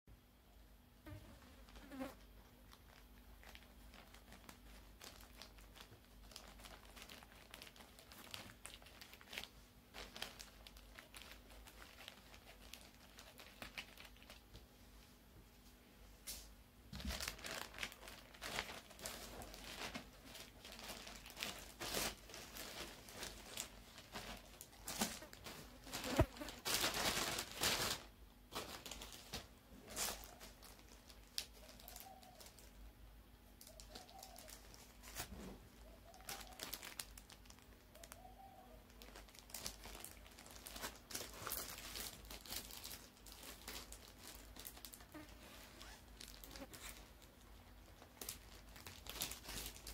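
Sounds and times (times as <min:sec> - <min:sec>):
plastic packaging crinkling: 0:01.6 - 0:14.6, 0:16.9 - 0:32.8, 0:33.6 - 0:49.9.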